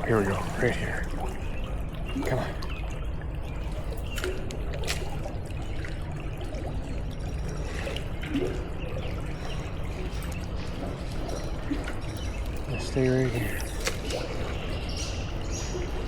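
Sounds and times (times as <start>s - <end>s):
river water trickling over rocks: 0.0s - 16.0s.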